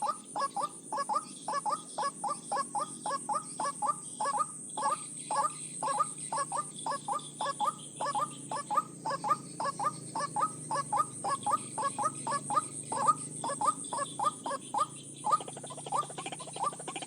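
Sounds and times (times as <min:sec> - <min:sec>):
bird croaking calls: 0:00.0 - 0:17.0.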